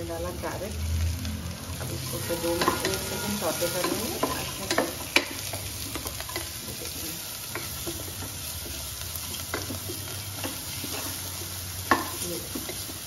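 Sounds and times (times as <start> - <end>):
vegetables sizzling in hot oil: 0.0 - 13.0
wooden spatula scraping a pot: 1.7 - 13.0.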